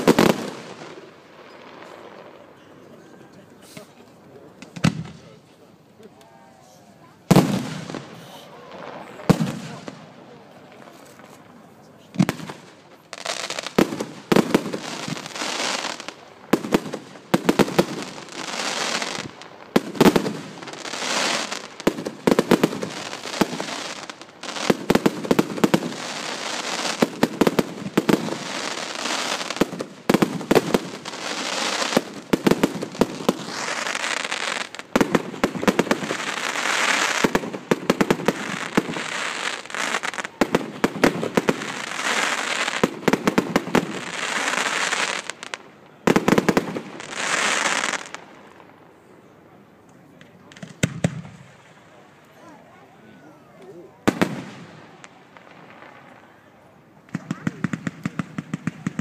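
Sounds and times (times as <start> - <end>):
fireworks bangs: 0.0 - 2.6, 4.6 - 5.5, 7.2 - 48.9, 50.2 - 52.0, 53.8 - 59.0
fireworks crackling: 0.0 - 59.0.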